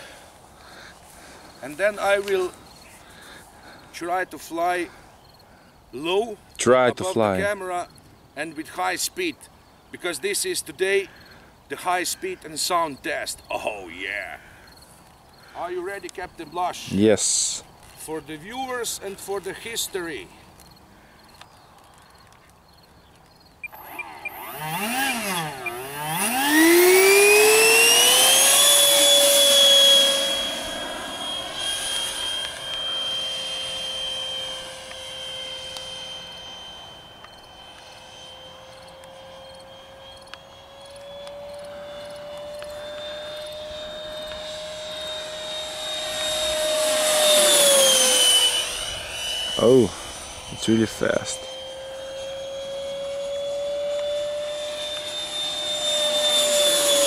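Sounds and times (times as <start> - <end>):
electric ducted fan whining: 0.0 - 57.0.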